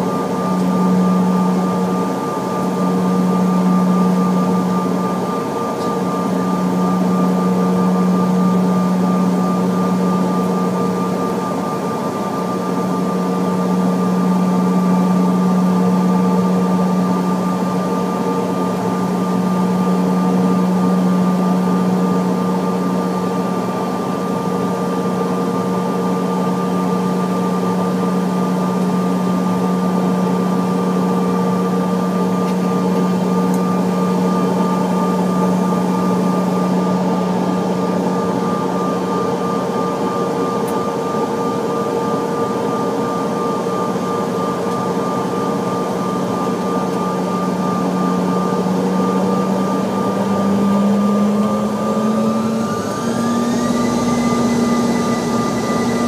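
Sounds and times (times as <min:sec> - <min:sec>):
jet engines humming and whining: 0:00.0 - 0:56.0.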